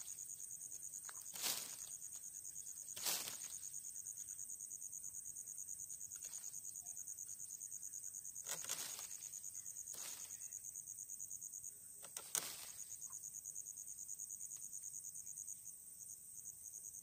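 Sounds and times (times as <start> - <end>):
insect pulsing trill: 0.0 - 17.0.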